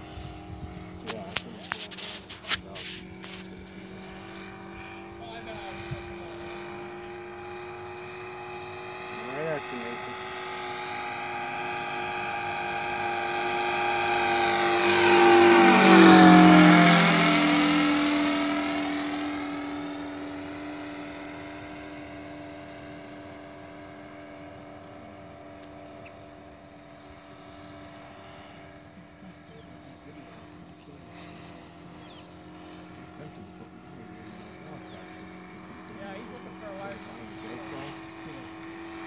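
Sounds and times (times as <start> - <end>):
model plane engine flyby: 0.0 - 39.0.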